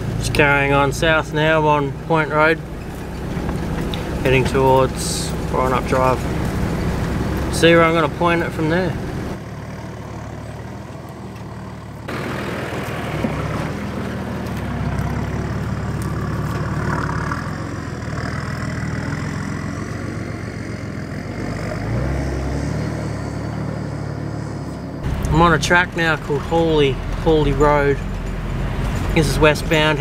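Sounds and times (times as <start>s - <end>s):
vehicle engine running at low revs: 0.0s - 30.0s.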